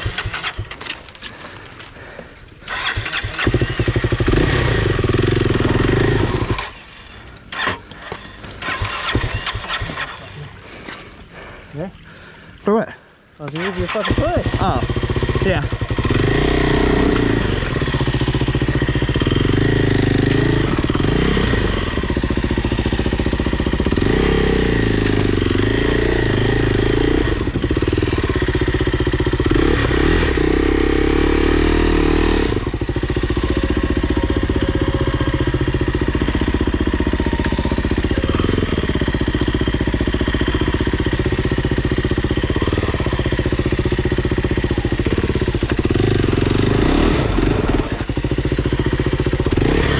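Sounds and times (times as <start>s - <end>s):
dirt bike engine revving: 0.0s - 10.6s, 13.5s - 49.9s.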